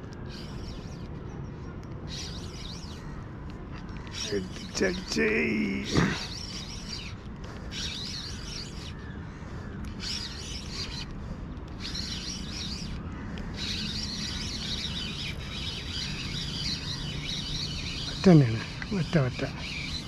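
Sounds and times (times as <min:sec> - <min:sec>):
birds chirping and chattering: 0:00.0 - 0:20.0.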